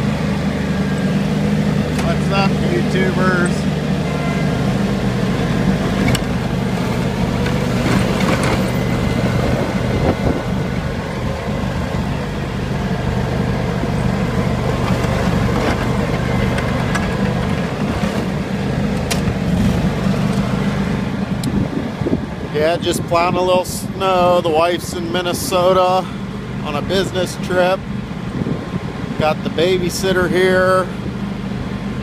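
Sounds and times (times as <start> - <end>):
lawn tractor engine running: 0.0 - 32.0.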